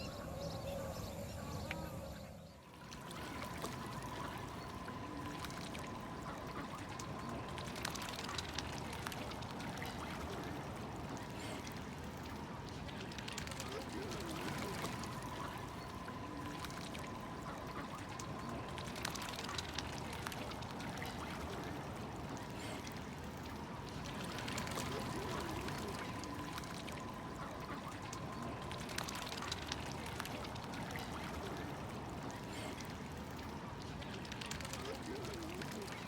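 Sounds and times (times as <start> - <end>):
water trickling and splashing: 1.6 - 36.0
water dripping: 2.7 - 36.0.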